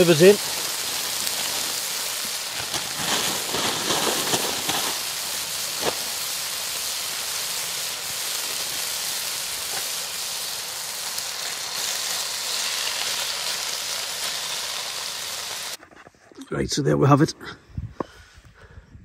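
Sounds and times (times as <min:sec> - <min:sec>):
food sizzling in a pan: 0:00.0 - 0:15.8.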